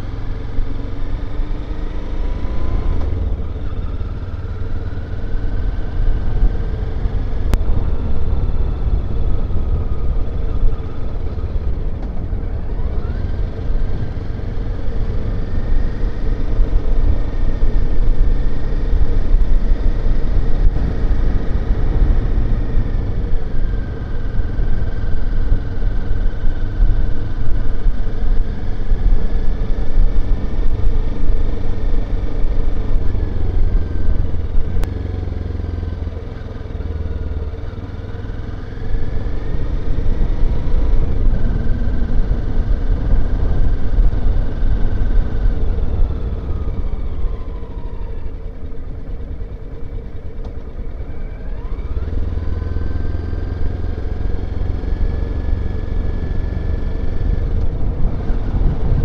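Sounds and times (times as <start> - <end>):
motorcycle engine running: 0.0 - 59.0
heavy low rumble: 5.6 - 36.1, 38.3 - 59.0.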